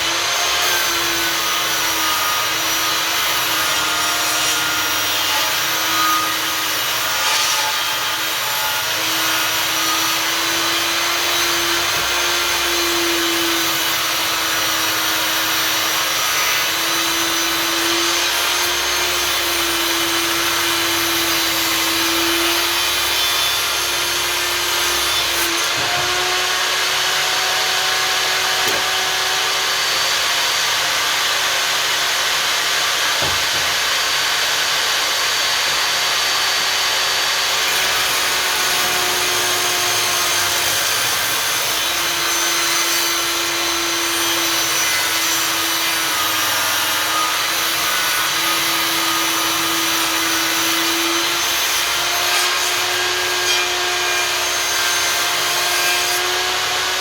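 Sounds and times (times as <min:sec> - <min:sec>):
table saw cutting wood: 0:00.0 - 0:57.0.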